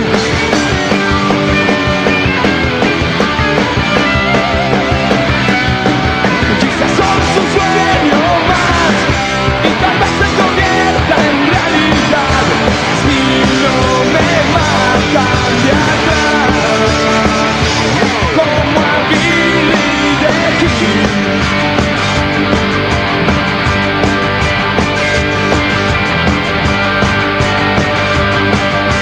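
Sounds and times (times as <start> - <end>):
punk rock band playing live: 0.0 - 29.0.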